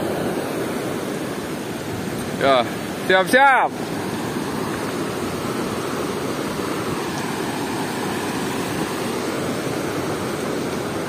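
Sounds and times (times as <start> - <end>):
surf washing over sand: 0.0 - 11.0.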